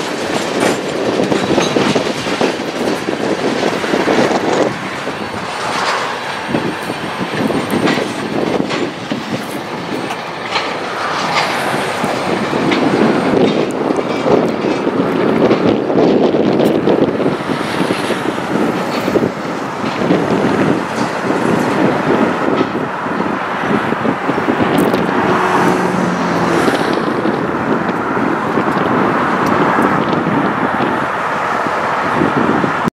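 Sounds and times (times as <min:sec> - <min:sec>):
steel wheels rumbling on rail: 0:00.0 - 0:32.9
wheels clicking over rail joints: 0:00.0 - 0:32.9.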